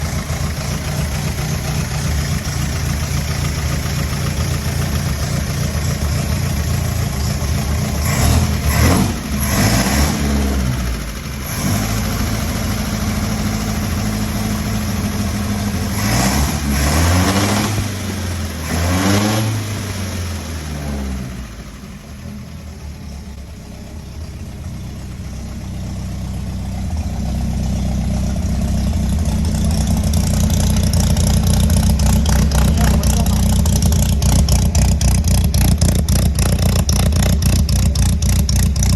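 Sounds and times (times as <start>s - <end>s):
racing car engine idling and revving: 0.0s - 38.9s.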